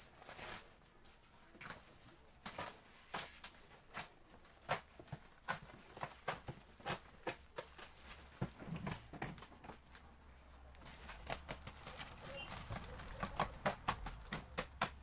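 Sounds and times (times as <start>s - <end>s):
plastic film crinkling: 1.5s - 15.0s.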